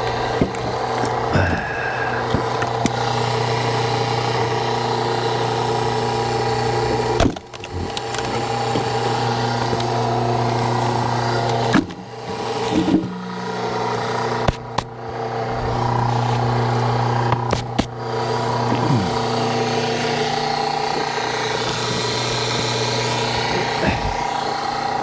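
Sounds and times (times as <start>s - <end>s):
wood splitting cracks: 0.0s - 15.2s, 15.8s - 24.3s
log splitter engine running: 0.0s - 25.0s.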